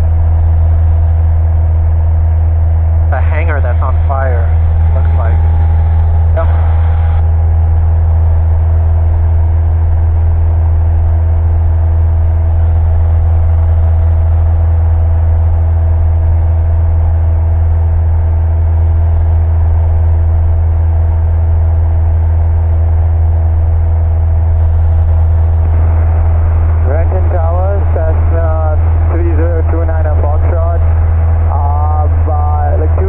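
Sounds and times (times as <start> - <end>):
aircraft engine droning in cockpit: 0.0 - 33.0.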